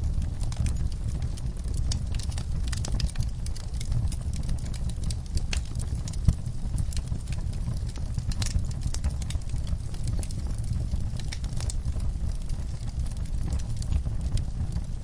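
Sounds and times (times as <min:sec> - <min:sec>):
low steady rumble: 0:00.0 - 0:15.0
wood fire crackling: 0:00.0 - 0:15.0.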